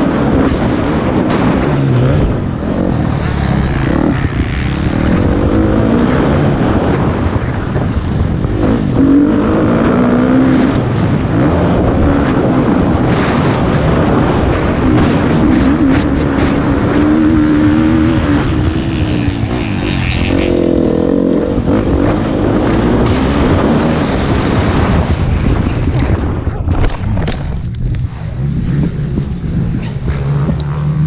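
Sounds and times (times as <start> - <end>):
motocross bike engine: 0.0 - 31.0.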